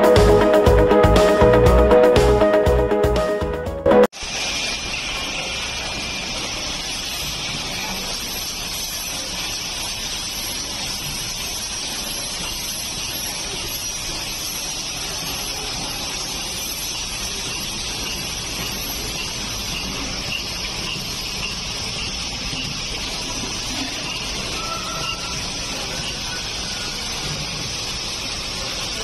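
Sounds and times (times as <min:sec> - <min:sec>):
machine noise: 0:00.0 - 0:03.2, 0:03.9 - 0:29.0.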